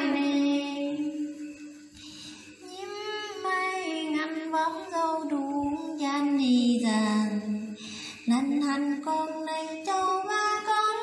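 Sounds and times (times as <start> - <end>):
woman singing unaccompanied: 0.0 - 1.5, 2.6 - 11.0.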